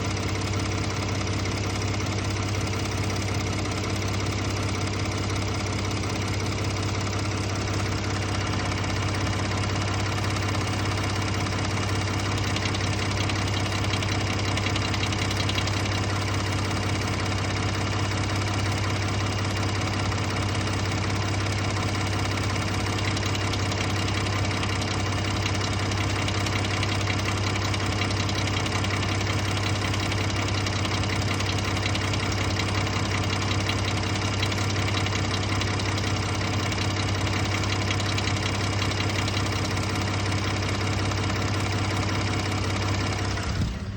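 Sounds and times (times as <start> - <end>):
truck engine idling with rattle: 0.0 - 43.9.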